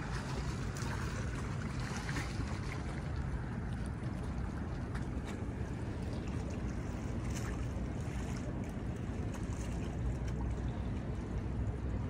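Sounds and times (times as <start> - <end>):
steady low rumble: 0.0 - 12.0
water lapping against pier: 0.0 - 12.0.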